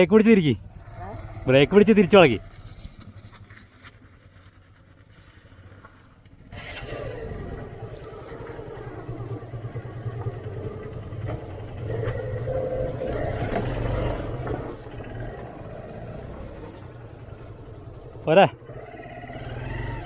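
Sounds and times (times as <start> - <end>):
motorcycle engine running: 0.6 - 20.0.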